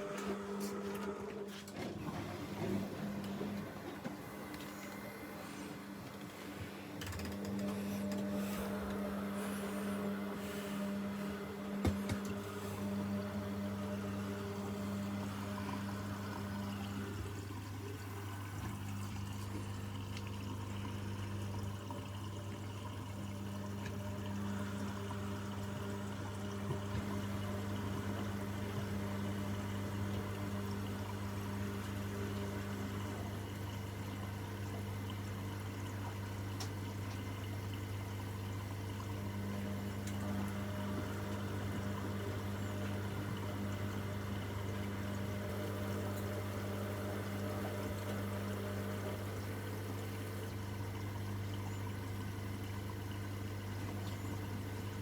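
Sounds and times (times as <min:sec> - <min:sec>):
low electrical hum: 0:00.0 - 0:55.0
water flowing through washing machine: 0:00.0 - 0:55.0.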